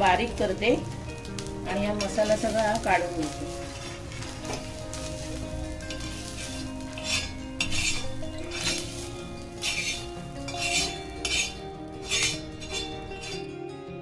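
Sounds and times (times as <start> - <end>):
background music: 0.0 - 14.0
spatula scraping iron griddle: 1.8 - 13.5.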